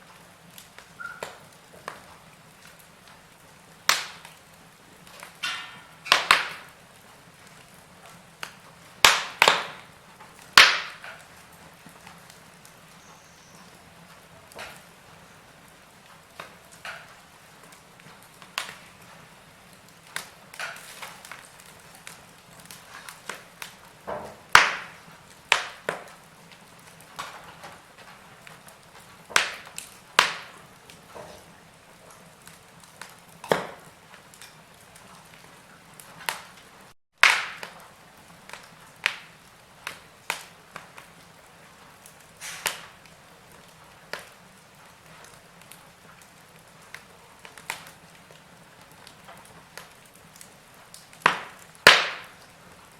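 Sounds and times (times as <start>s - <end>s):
faint steady hiss: 0.0s - 52.9s
wood fire crackling and popping: 0.0s - 52.9s.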